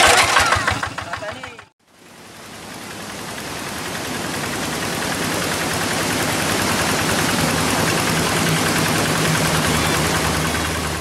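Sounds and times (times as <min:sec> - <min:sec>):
diesel tractor engine knocking: 0:00.0 - 0:01.7, 0:02.9 - 0:11.0.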